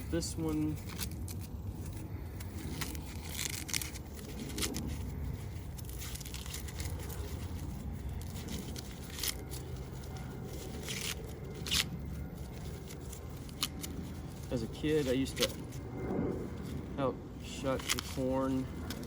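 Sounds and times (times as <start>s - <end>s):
corn husks ripping and crinkling: 0.0s - 15.9s, 16.5s - 19.0s.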